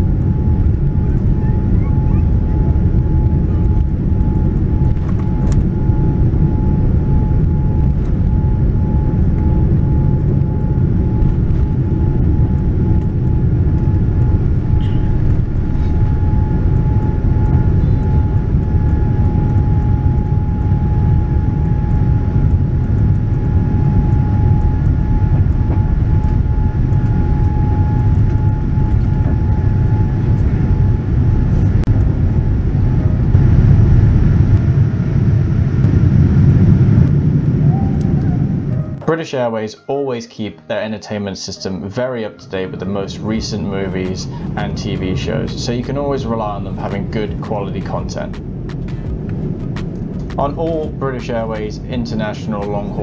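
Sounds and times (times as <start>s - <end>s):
jet engine whine: 0.0s - 39.9s, 41.0s - 53.0s
airplane cabin takeoff rumble: 0.0s - 53.0s.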